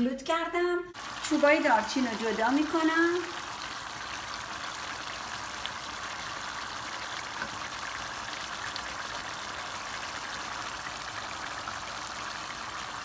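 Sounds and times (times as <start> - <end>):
stew bubbling in a pan: 1.0 - 13.0.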